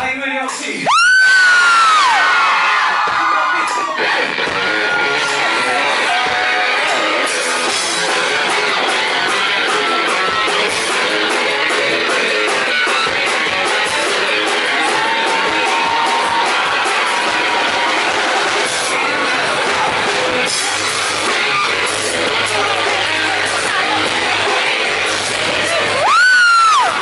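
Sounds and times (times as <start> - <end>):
electric guitar: 0.9 - 27.0
drums with steady beat: 2.0 - 27.0.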